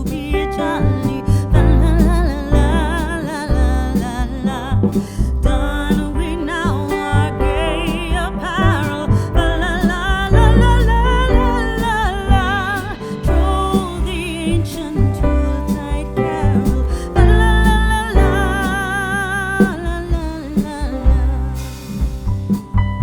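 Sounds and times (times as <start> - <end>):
song with vibrato vocals: 0.0 - 22.2
guitar: 0.0 - 23.0
heavy bass: 0.0 - 23.0.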